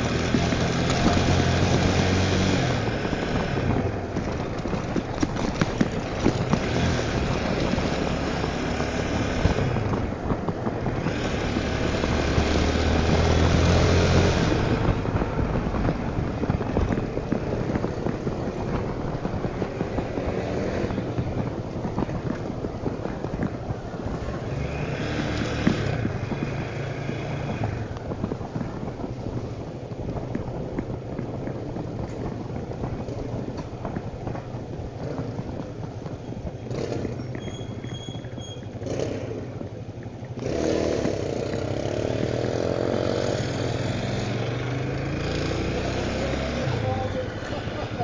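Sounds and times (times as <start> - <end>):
motorcycle engine: 0.0 - 48.0
wind and road noise: 0.0 - 48.0.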